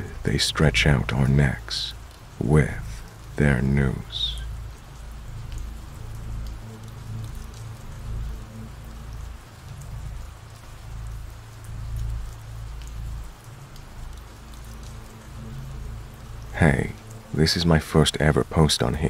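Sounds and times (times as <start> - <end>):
steady rainfall: 0.0 - 19.0
water drips: 0.0 - 19.0.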